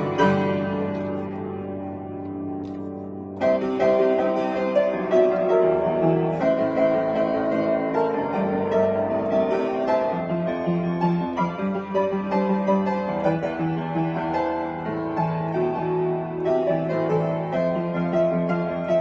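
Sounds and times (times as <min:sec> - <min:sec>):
piano playing quick notes: 0:00.0 - 0:19.0.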